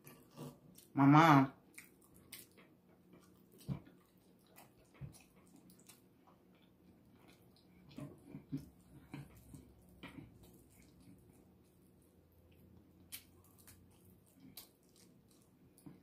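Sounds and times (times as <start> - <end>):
person eating chicken by hand: 0.0 - 1.0, 1.6 - 16.0.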